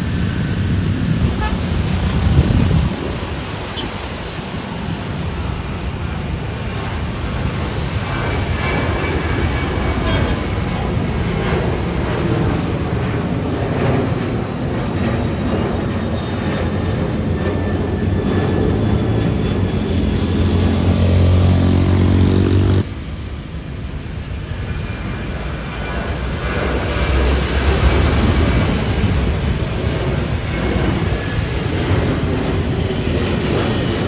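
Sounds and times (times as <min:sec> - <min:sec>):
airliner engine roar: 0:00.0 - 0:34.0.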